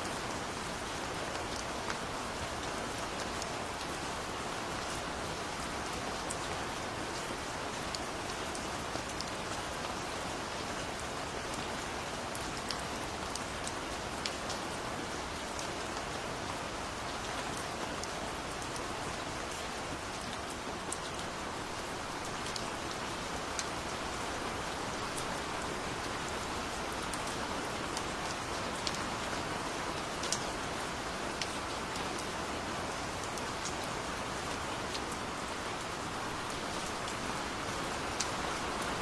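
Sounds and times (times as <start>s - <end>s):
steady rain hiss: 0.0s - 39.0s
raindrops ticking on a surface: 0.1s - 16.5s, 17.1s - 39.0s.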